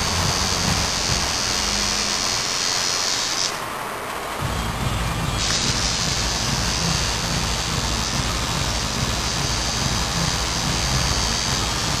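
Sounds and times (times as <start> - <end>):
tattoo machine buzzing: 0.0 - 3.6, 4.5 - 12.0.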